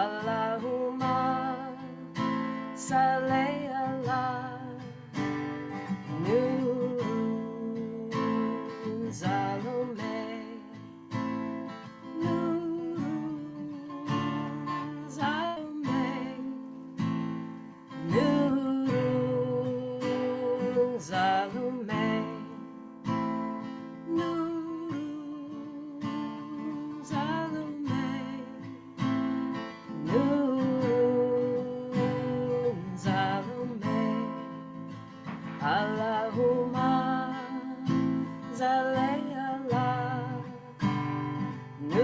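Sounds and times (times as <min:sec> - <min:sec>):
strummed acoustic guitar: 0:00.0 - 0:42.0.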